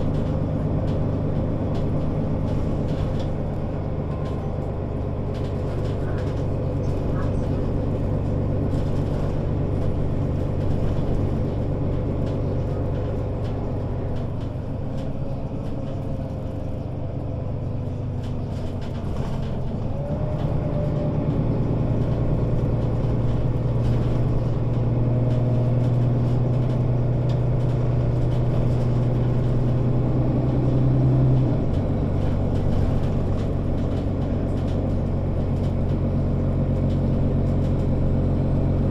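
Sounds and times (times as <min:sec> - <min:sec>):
bus engine drone from inside: 0:00.0 - 0:38.9.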